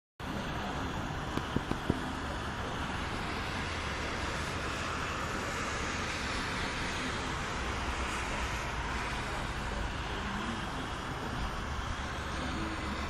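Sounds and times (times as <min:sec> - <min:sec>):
snowstorm wind blowing: 0:00.2 - 0:13.0.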